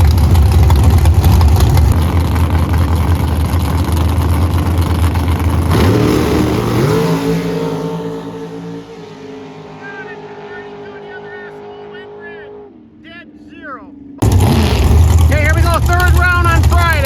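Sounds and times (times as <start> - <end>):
race car engine at full throttle: 0.0 - 17.0.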